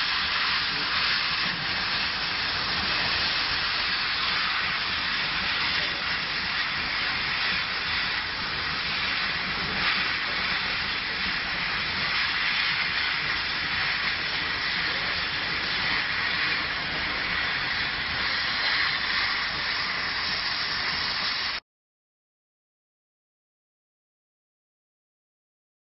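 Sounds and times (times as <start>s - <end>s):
laser cutter air hiss: 0.0s - 21.6s.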